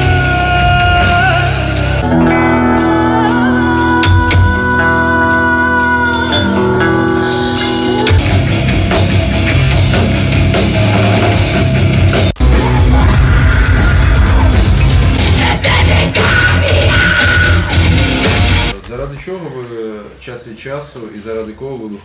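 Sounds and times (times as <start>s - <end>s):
ringing electric guitar chords: 0.0s - 18.8s
black metal band playing: 0.0s - 19.2s.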